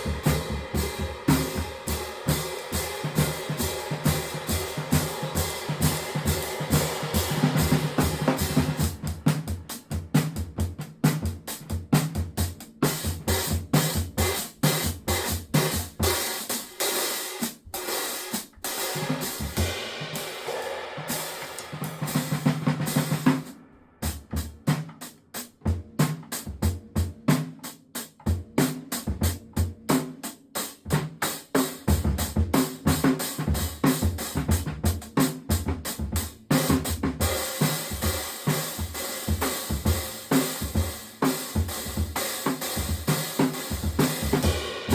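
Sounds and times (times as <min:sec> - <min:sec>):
drum kit playing: 0:00.0 - 0:44.9.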